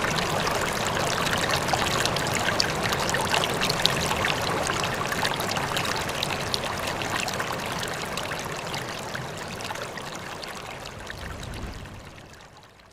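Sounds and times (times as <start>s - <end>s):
stream flowing over rocks: 0.0s - 12.8s
small splashes and trickles: 0.0s - 12.9s.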